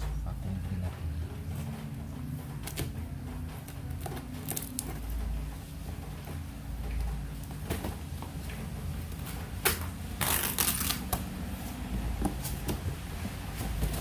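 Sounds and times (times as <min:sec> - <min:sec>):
cardboard rustling: 0:00.0 - 0:14.0.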